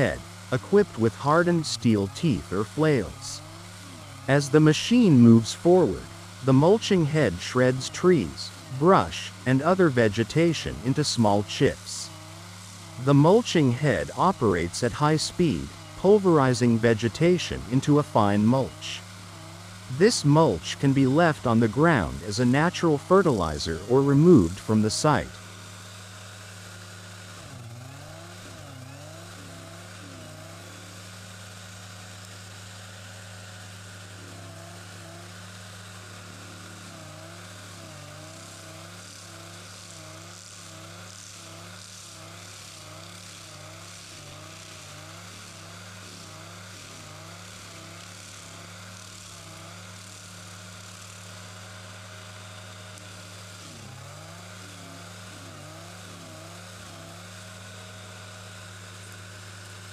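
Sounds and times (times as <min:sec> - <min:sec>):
mulcher machine drone: 0:00.0 - 0:59.9.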